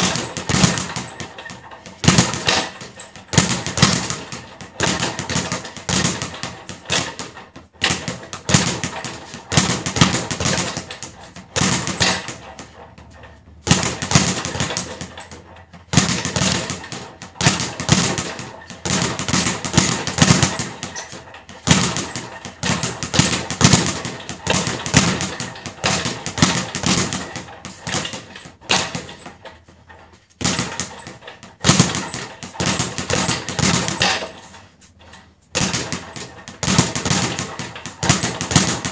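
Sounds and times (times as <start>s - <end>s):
speed bag being punched: 0.0s - 38.9s.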